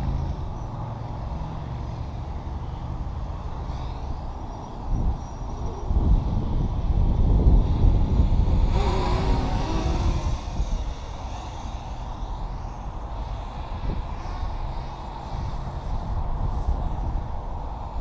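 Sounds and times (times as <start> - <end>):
quadcopter motors whining: 0.0 - 18.0
wind rumbling on microphone: 0.0 - 18.0.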